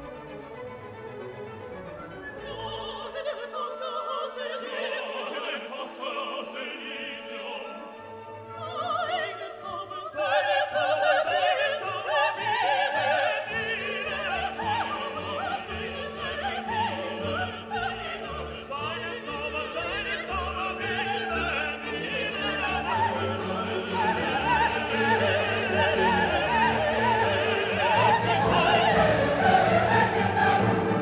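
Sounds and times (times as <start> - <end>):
operatic singing with orchestra: 0.0 - 31.0.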